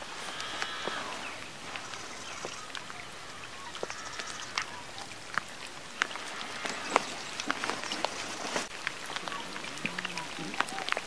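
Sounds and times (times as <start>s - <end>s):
rain falling on a lake: 0.0s - 11.0s.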